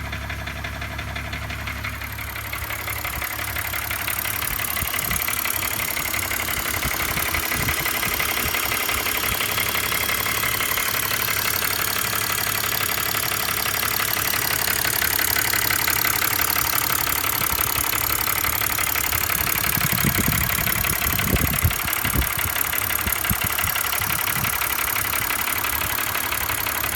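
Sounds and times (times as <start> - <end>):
car engine running with rattle: 0.0 - 26.9
low engine knocks: 0.1 - 26.9.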